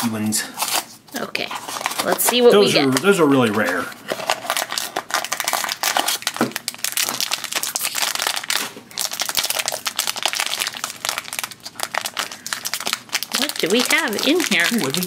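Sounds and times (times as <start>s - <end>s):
foil bag crinkling: 1.5s - 15.0s.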